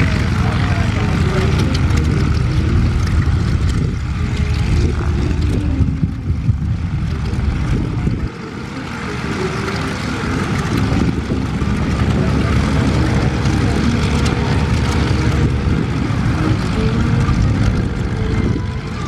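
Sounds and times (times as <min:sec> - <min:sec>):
radial engines idling: 0:00.0 - 0:19.0.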